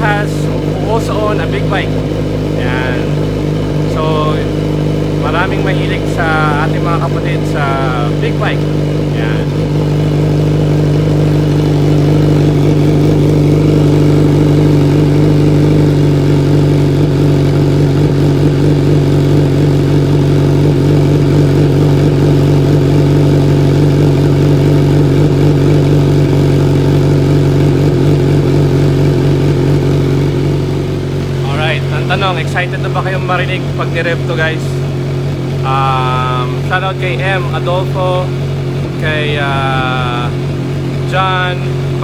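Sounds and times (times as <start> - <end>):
motorcycle engine idling loudly: 0.0 - 42.0.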